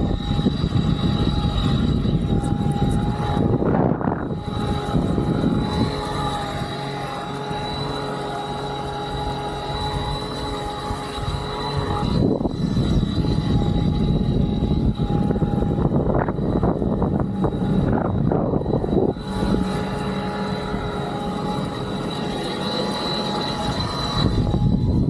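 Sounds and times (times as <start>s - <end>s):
electric motor whining: 0.0s - 25.0s
water and wind rushing: 0.0s - 25.0s.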